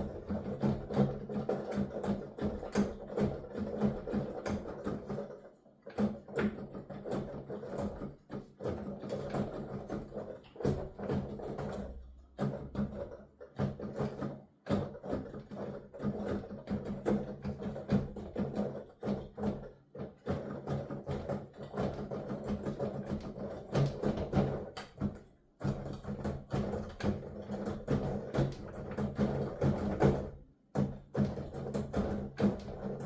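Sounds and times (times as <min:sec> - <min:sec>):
piano keys clacking and thumping: 0:00.0 - 0:33.0.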